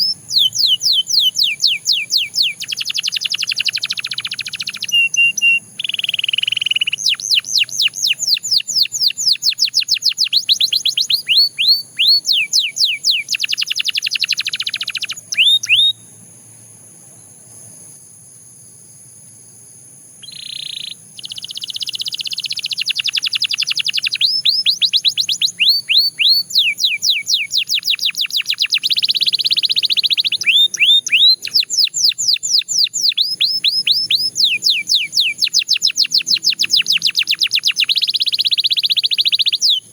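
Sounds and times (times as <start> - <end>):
canary singing: 0.0 - 16.0, 20.2 - 39.9.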